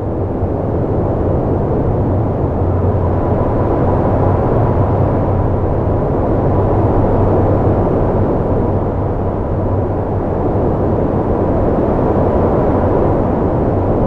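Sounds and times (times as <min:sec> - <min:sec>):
volcanic eruption roar: 0:00.0 - 0:14.0.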